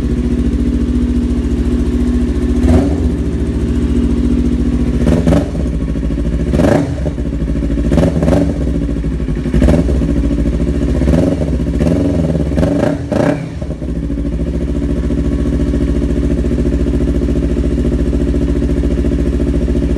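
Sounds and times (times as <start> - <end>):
motorcycle engine idling and revving: 0.0 - 19.9.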